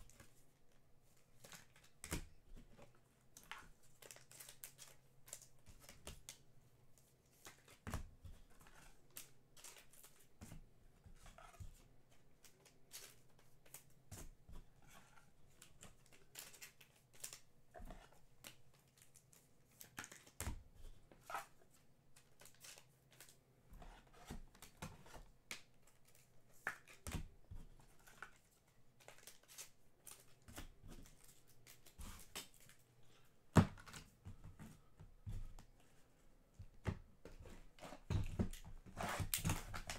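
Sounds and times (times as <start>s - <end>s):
trading cards and packaging handled: 0.0s - 39.9s.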